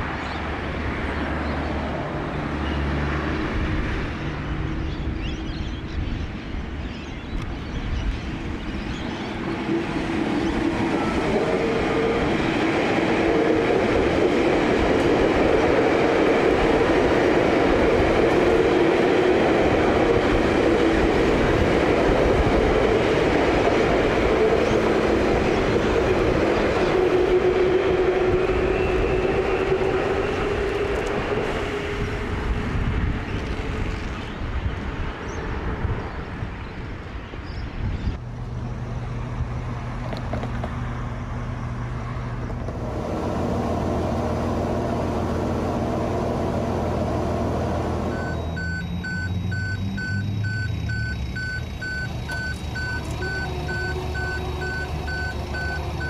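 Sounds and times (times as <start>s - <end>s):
train running past: 7.9s - 56.0s.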